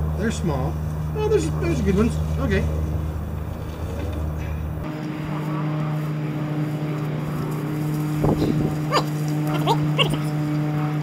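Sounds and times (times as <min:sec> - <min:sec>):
machine engine hum: 0:00.0 - 0:11.0.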